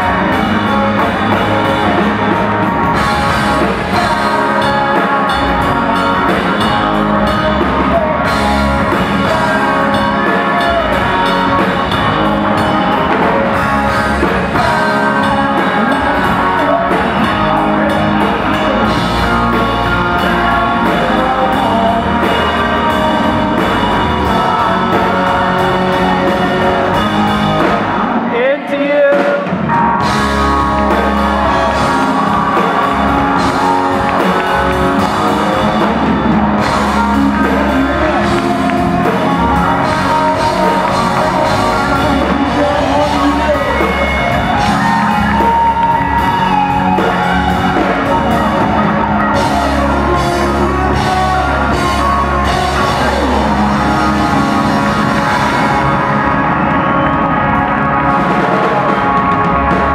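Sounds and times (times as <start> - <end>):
male singer: 0.0 - 29.6, 30.8 - 56.3
acoustic and electric guitars: 0.0 - 59.9
bass: 0.0 - 59.9
drums: 0.0 - 59.9
keyboards: 0.0 - 59.9.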